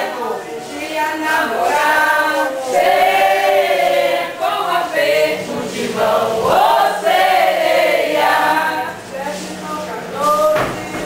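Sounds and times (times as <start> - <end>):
group of voices singing: 0.0 - 11.0.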